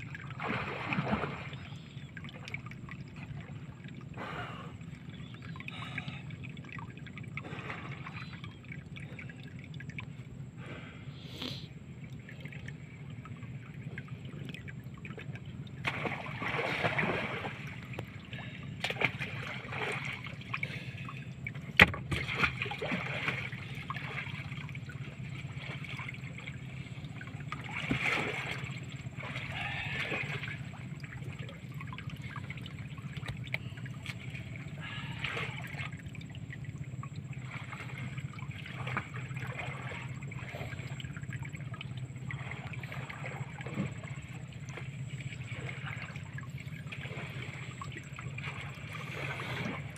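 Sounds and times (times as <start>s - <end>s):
steady low hum: 0.0s - 49.9s
water sloshing and splashing: 0.0s - 49.9s.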